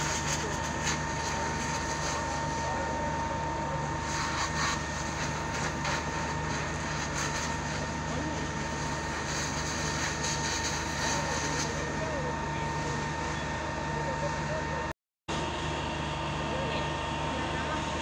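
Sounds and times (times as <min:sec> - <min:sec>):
fire truck engine running: 0:00.0 - 0:18.0.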